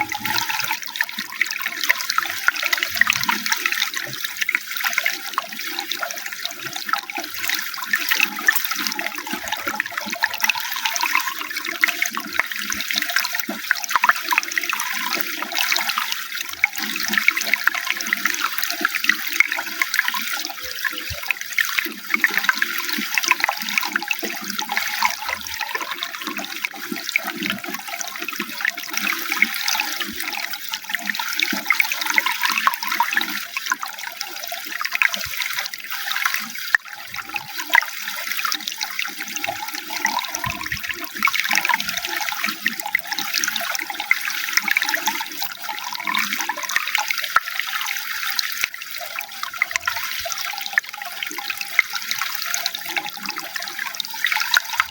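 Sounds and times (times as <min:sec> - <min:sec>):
running water splashing: 0:00.0 - 0:54.9.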